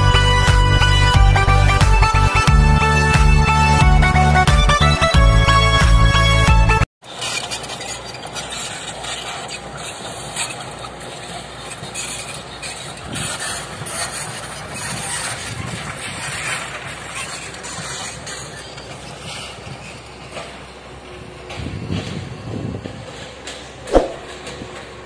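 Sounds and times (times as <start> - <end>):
distant excavator diesel engine: 0.0 - 25.0.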